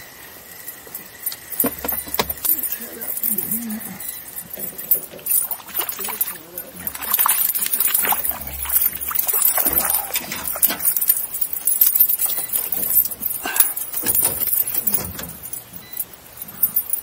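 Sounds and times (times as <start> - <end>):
fishing tackle clicking and rattling: 1.2 - 17.0.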